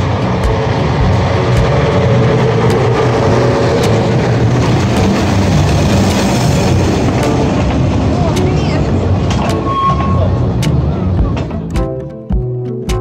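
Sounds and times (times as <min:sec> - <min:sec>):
diesel locomotive engine drone: 0:00.0 - 0:12.9.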